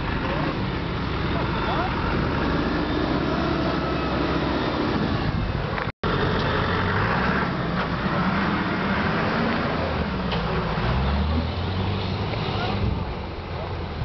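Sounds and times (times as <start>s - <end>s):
off-road engine crawling through water: 0.0s - 14.0s.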